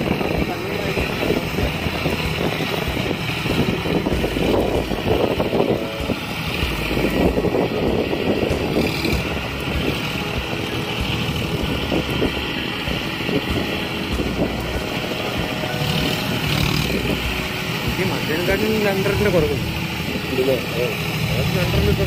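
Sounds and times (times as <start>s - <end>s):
tractor diesel engine running: 0.0s - 22.0s
wind noise on microphone: 0.0s - 22.0s.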